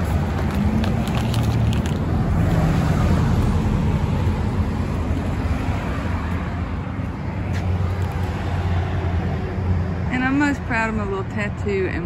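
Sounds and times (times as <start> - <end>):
tyre noise on road: 0.0 - 10.7
cars driving past: 0.0 - 12.0.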